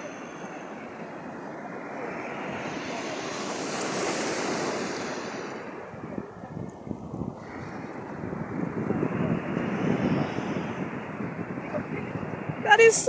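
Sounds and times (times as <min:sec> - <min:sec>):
sea surf washing up beach: 0:00.0 - 0:13.0
wind buffeting microphone: 0:00.0 - 0:13.0.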